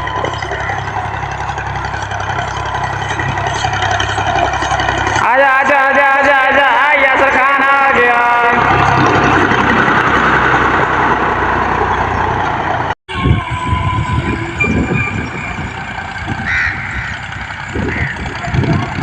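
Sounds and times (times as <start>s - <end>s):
tractor engine rumbling: 0.0s - 19.0s.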